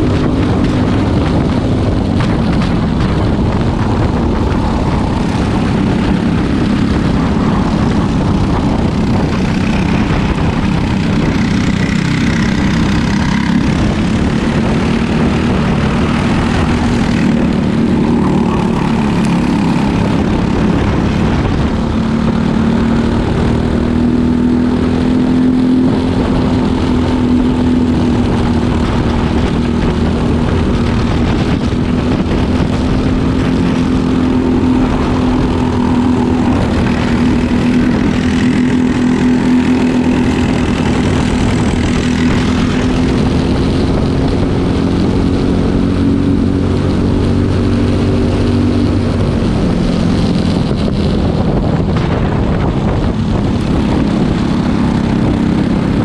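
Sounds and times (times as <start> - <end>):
kart engine buzzing: 0.0 - 56.0.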